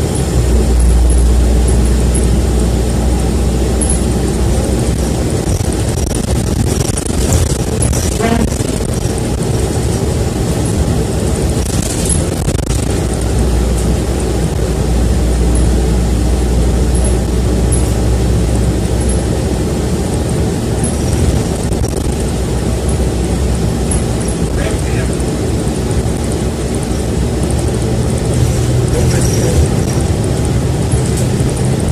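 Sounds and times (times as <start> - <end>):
bus engine and road drone: 0.0 - 31.9.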